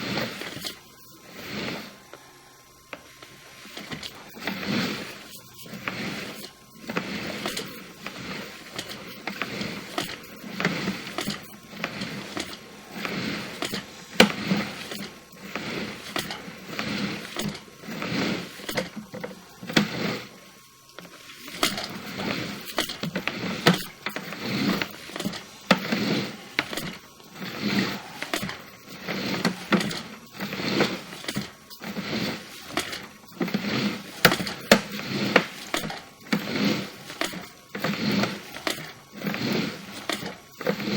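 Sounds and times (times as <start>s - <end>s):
camera cable scraping through pipe: 0.0s - 40.9s.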